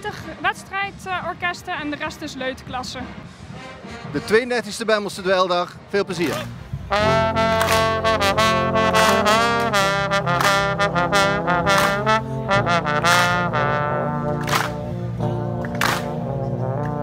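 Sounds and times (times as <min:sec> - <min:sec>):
street brass band playing: 0:00.0 - 0:17.0.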